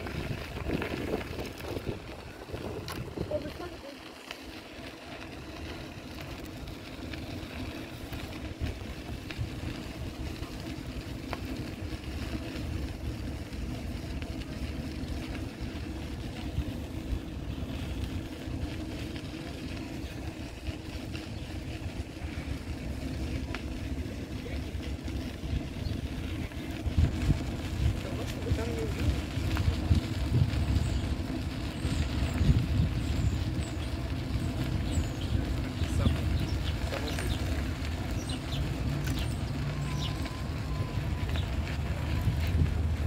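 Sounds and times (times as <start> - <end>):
vehicle engine rumble: 0.0 - 43.0.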